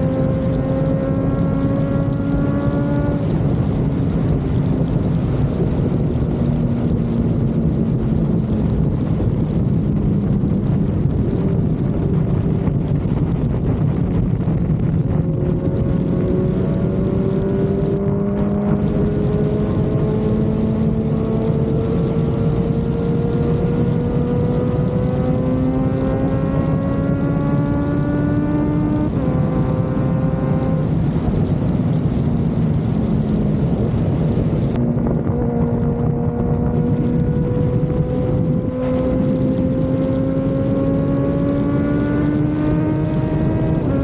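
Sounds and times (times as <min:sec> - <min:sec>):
motorcycle engine accelerating: 0:00.0 - 0:44.0
wind and road noise: 0:00.0 - 0:44.0.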